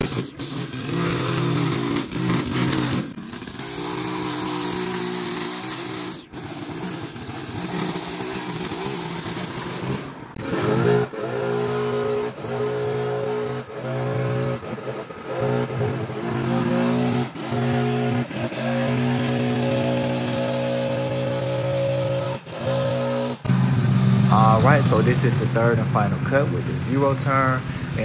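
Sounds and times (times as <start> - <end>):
riding mower engine running: 0.0 - 28.0.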